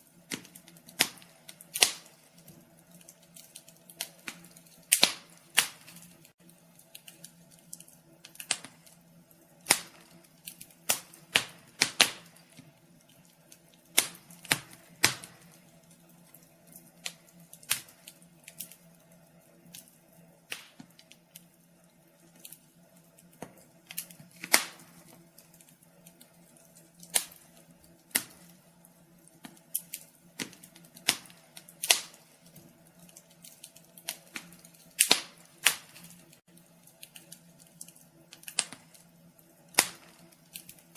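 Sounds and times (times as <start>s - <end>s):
faint steady hum: 0.0s - 40.9s
wood fire crackling: 0.0s - 40.9s.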